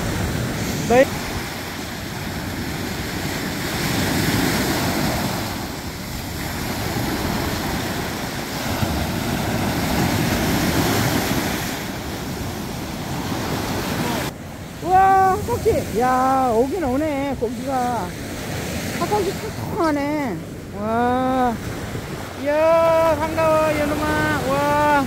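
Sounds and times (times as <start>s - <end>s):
small waves breaking: 0.0s - 25.0s.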